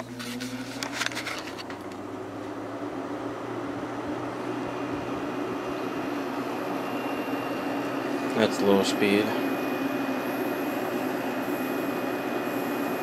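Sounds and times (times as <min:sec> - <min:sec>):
air conditioner running: 0:00.0 - 0:13.0.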